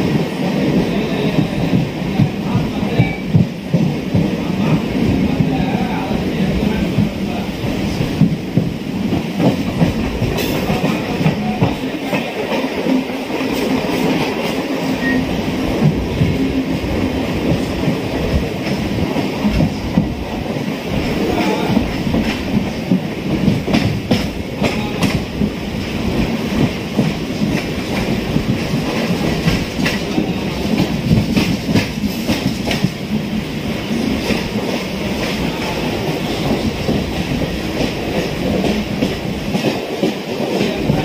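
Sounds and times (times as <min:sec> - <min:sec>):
wheels clacking over rail joints: 0:07.9 - 0:41.0.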